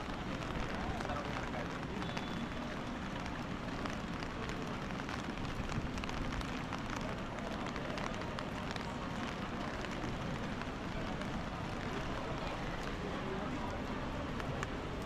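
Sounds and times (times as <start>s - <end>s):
crowd chatter: 0.0s - 15.0s
falling rain: 0.0s - 15.0s.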